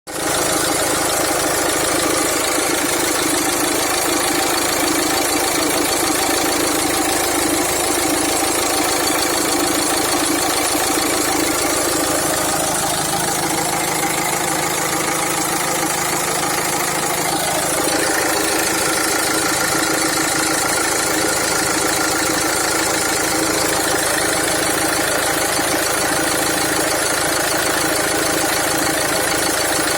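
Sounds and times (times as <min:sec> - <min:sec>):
diesel engine idling: 0:00.1 - 0:29.9
engine knocking: 0:00.1 - 0:29.9.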